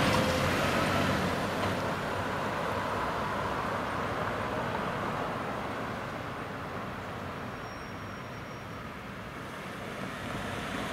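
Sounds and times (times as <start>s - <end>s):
cars driving by: 0.0s - 10.9s
engine and tyre noise: 0.0s - 10.9s.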